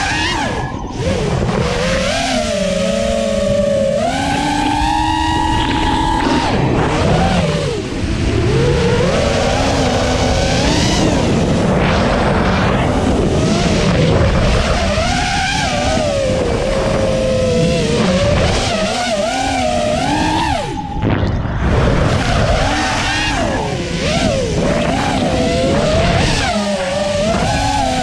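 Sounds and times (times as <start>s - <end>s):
drone motors whining: 0.0s - 28.0s
wind rush: 0.0s - 28.0s.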